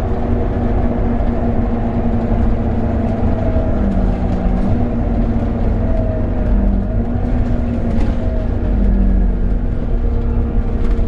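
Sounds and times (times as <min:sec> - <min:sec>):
bus diesel engine rumbling: 0:00.0 - 0:11.0.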